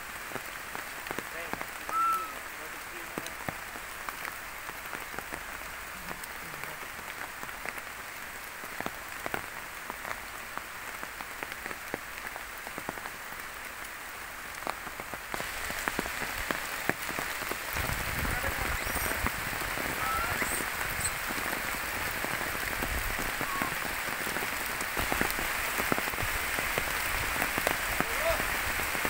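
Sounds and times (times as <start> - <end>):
rain on leaves and stone: 0.0 - 29.0.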